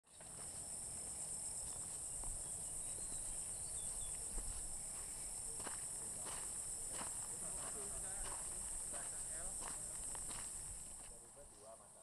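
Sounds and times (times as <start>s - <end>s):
insects trilling: 0.1s - 12.0s.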